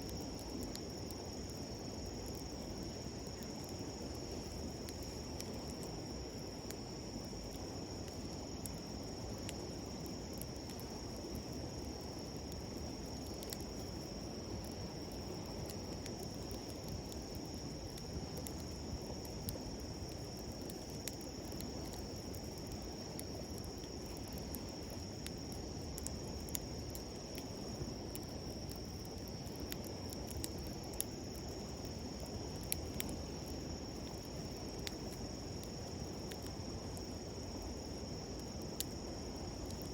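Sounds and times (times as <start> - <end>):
campfire crackling and popping: 0.0 - 39.9
insects chirring: 0.0 - 39.9.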